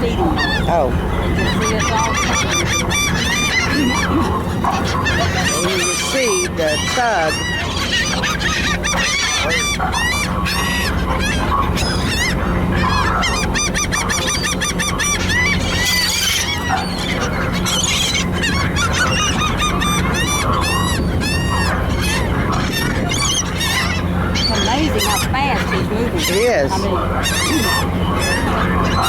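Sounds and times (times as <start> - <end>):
ferry low hum: 0.0 - 29.0
gulls calling: 0.0 - 29.0.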